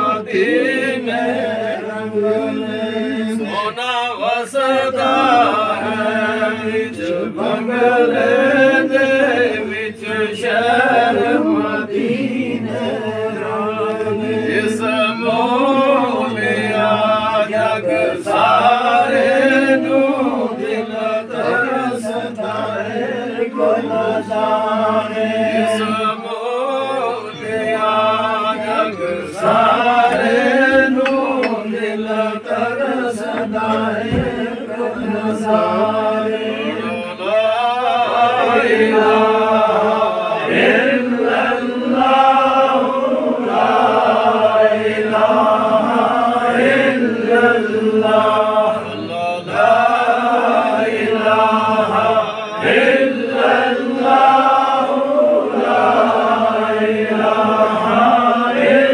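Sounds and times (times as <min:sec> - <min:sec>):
men chanting together: 0:00.0 - 0:58.9.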